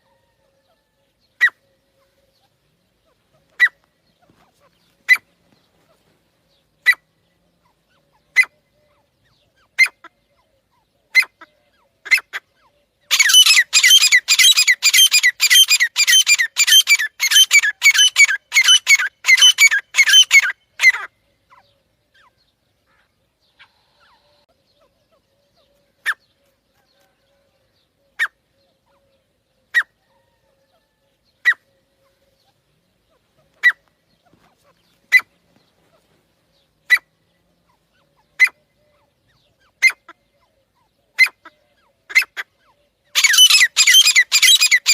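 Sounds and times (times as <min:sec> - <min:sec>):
partridge calling: 0:01.4 - 0:44.9.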